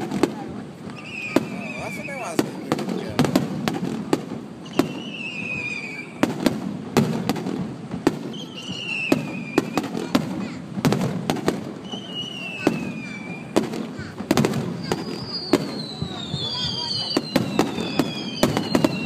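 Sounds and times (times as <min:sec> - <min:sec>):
firework shells bursting: 0:00.0 - 0:19.0
firework whistle: 0:00.0 - 0:19.0.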